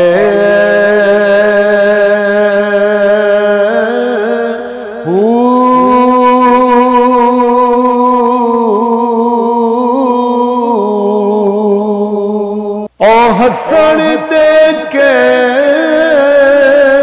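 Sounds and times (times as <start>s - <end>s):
man singing long note: 0.0s - 17.0s.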